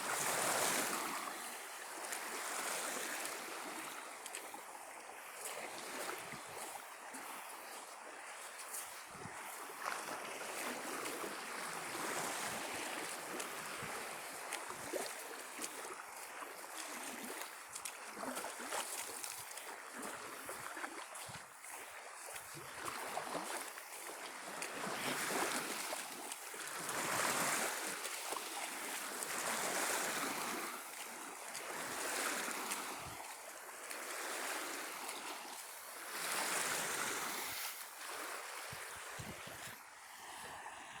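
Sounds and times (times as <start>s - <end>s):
small waves breaking on shore: 0.0s - 41.0s.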